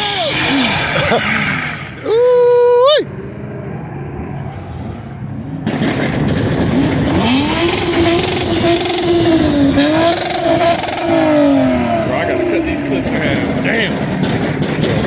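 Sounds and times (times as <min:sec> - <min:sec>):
car engine revving: 0:00.0 - 0:15.0
rev limiter crackling: 0:02.7 - 0:15.0.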